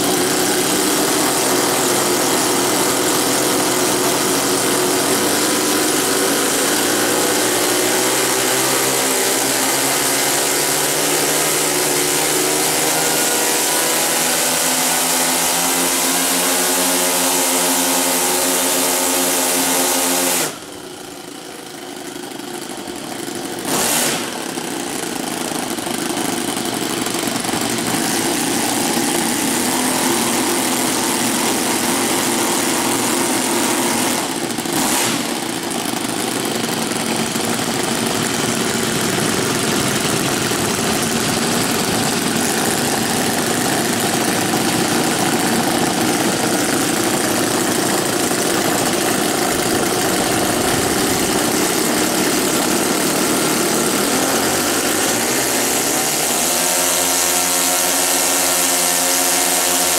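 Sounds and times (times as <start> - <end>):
model airplane engines running: 0.0 - 59.9.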